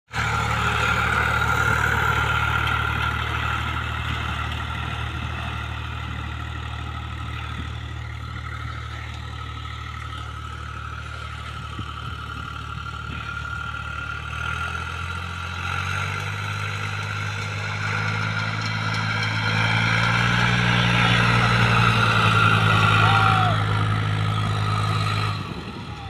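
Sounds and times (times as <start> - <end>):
tractor engine running: 0.1 - 26.0.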